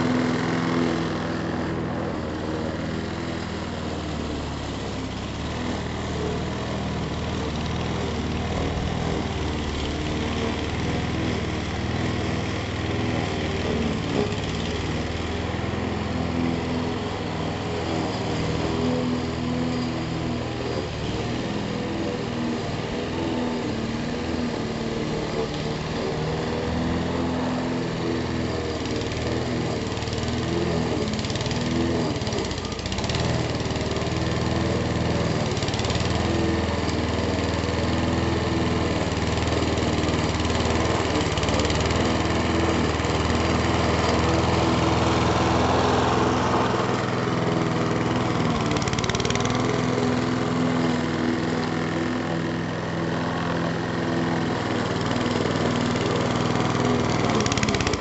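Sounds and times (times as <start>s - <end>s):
lawnmower engine running: 0.0s - 58.0s.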